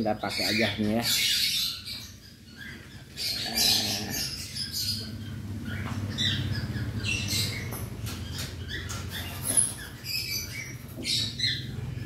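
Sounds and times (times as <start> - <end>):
cockatiels squawking and chirping: 0.0 - 12.0.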